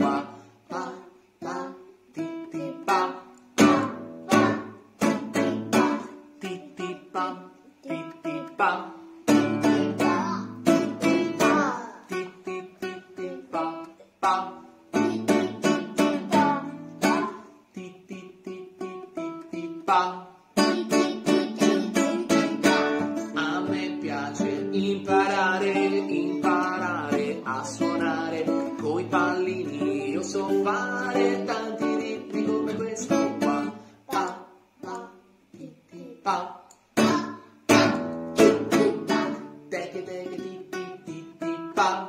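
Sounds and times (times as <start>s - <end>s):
classical guitar strumming chords: 0.0s - 42.0s
man singing: 0.0s - 42.0s.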